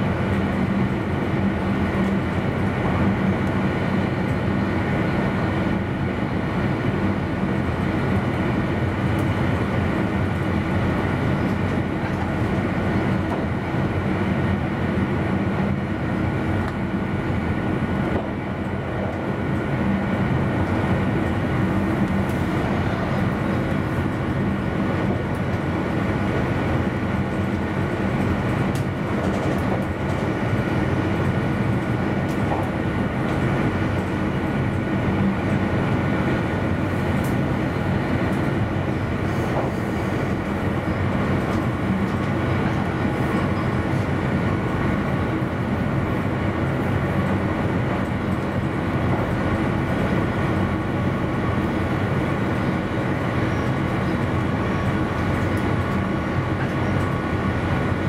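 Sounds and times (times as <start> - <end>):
constant hum: 0.0 - 58.0
wheels rumbling on rail: 0.0 - 58.0.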